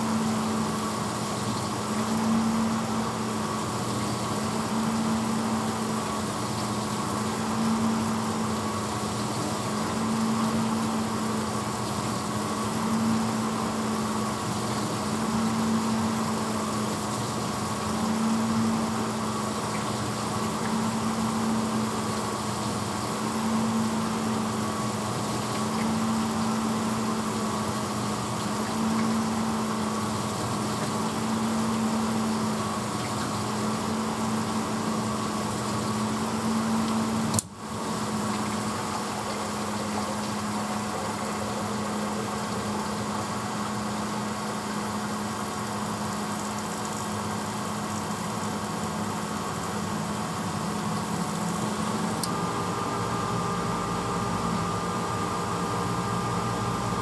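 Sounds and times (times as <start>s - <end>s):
dishwasher motor hum: 0.0s - 57.0s.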